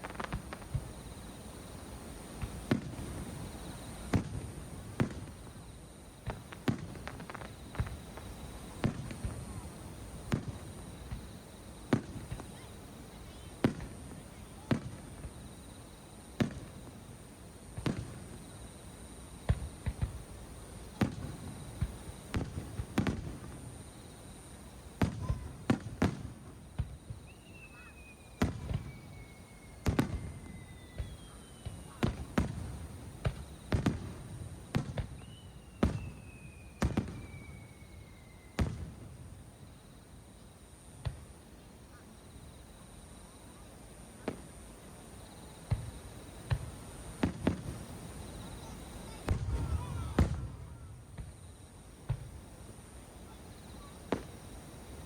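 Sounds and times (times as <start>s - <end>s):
fireworks whistles falling in pitch: 0.0s - 17.2s, 20.9s - 41.3s, 45.2s - 52.4s, 53.2s - 55.0s
fireworks bursting bangs: 0.0s - 41.6s, 43.5s - 55.0s.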